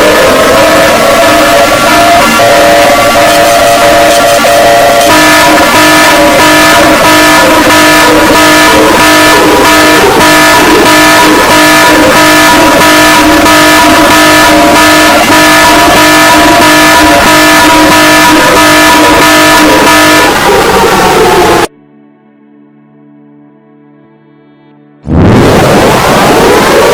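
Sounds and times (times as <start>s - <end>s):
harsh pulsing alarm tone: 0.0s - 21.7s, 25.0s - 26.9s.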